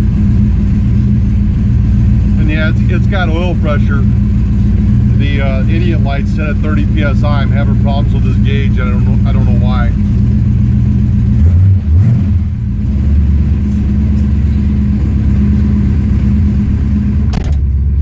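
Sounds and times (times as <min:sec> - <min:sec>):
car engine fast idle: 0:00.0 - 0:18.0.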